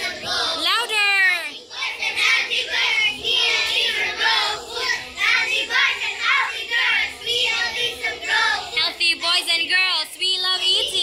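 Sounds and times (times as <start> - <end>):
children chanting a song: 0.0 - 9.7.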